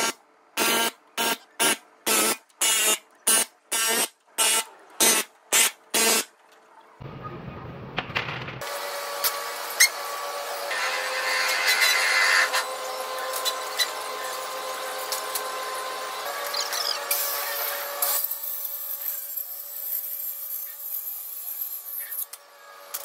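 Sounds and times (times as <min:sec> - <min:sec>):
steady shop hum: 0:00.0 - 0:23.0.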